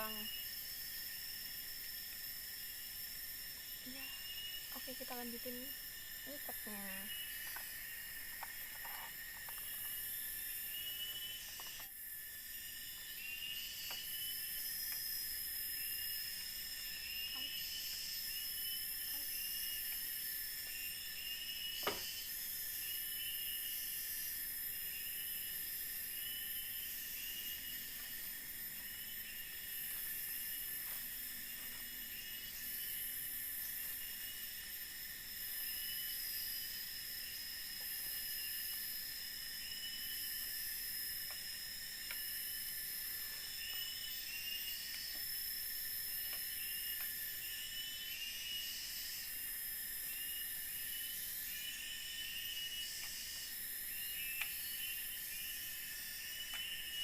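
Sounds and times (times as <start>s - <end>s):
insect chorus droning: 0.0s - 57.0s.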